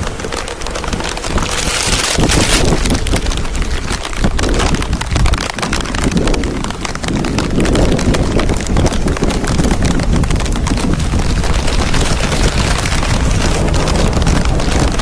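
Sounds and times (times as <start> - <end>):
dense rapid crackle: 0.0 - 15.0
wind buffeting microphone: 0.0 - 15.0.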